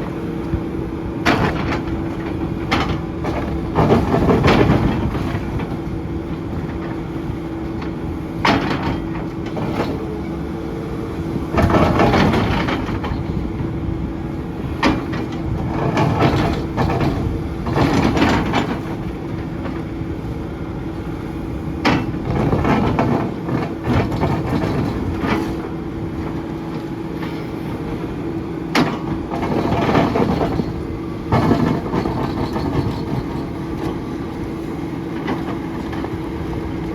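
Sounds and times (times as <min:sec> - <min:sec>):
excavator engine humming: 0:00.0 - 0:36.9.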